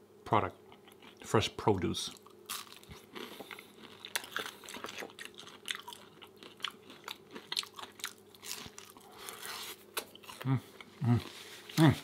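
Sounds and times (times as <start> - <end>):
person chewing food: 0.7 - 1.3, 2.1 - 11.8.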